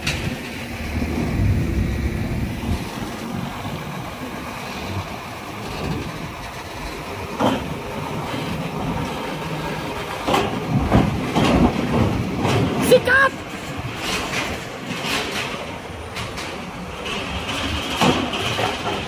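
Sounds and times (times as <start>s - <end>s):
diesel truck engine rumbling: 0.0s - 19.0s
trailer rattling: 0.0s - 19.0s.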